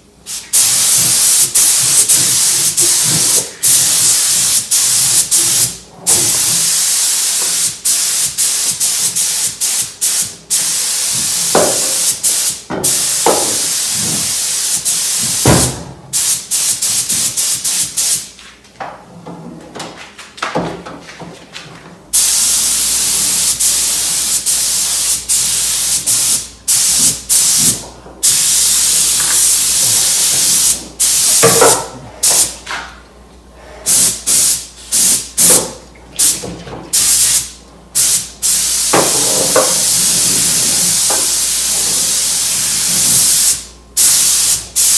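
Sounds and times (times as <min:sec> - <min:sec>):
spray gun hissing: 0:00.3 - 0:18.2, 0:22.2 - 0:32.5, 0:33.9 - 0:35.6, 0:37.0 - 0:44.9.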